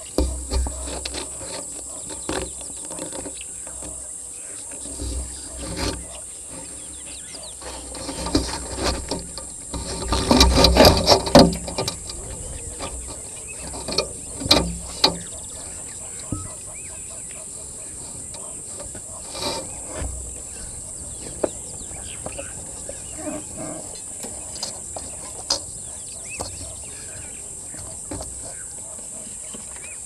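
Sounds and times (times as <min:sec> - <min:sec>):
handling thuds: 0:00.0 - 0:29.8
monkeys scratching on camera housing: 0:00.0 - 0:30.0.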